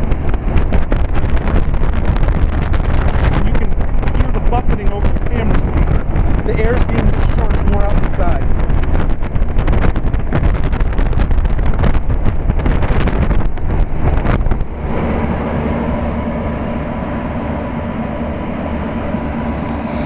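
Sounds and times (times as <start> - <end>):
fan air buffeting microphone: 0.0 - 20.0.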